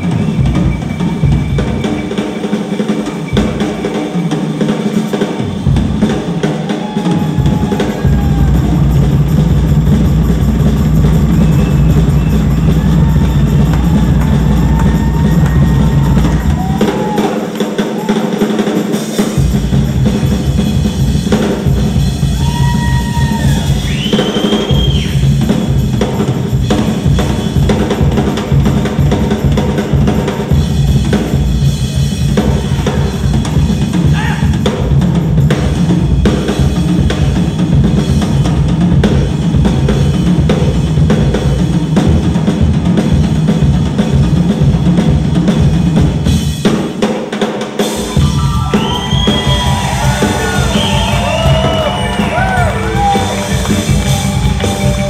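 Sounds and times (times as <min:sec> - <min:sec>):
drum kit solo: 0:00.0 - 0:55.0.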